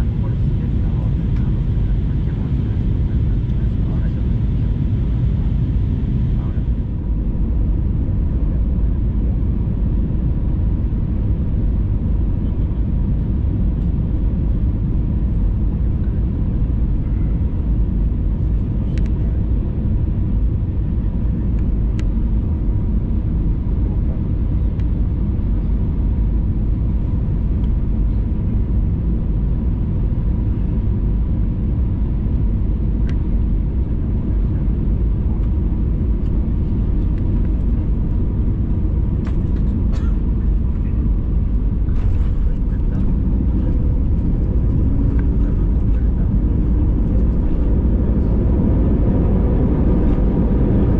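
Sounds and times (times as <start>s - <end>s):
airplane cabin engine and airflow noise: 0.0s - 50.9s.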